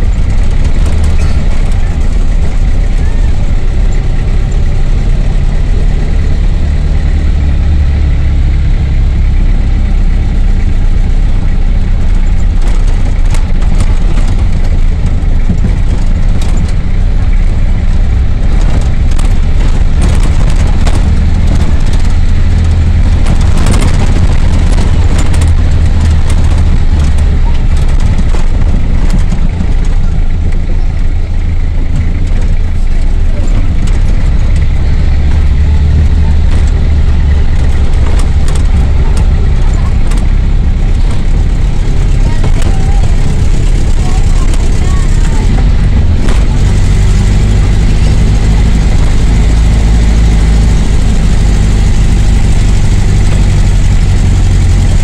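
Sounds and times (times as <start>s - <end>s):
knocks and rattles: 0.0s - 55.0s
vehicle engine droning: 0.0s - 55.0s.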